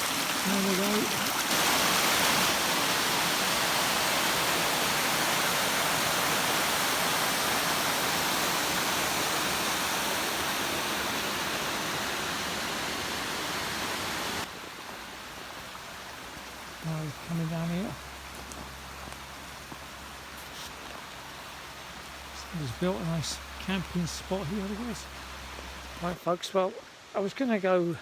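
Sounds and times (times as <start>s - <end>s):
fast-flowing water rushing: 0.0s - 28.0s.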